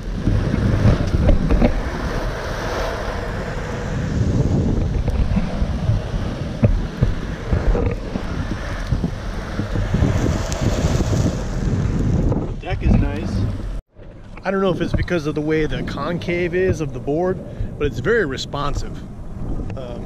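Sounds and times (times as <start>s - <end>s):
skateboard wheels rolling on asphalt: 0.0s - 20.0s
wind buffeting microphone: 0.0s - 20.0s.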